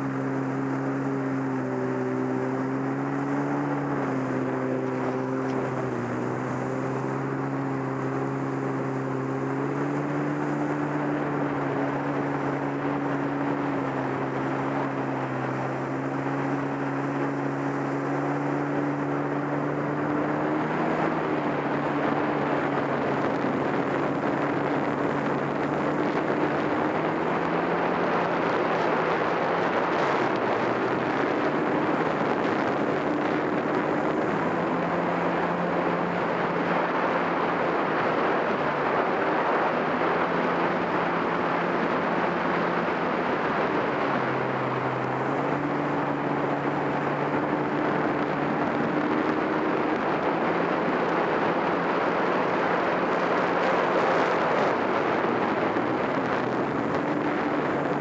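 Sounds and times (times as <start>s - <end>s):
higher engine tone: 0.0s - 58.0s
jet ski engine droning: 0.0s - 58.0s
water and wind rushing: 0.0s - 58.0s.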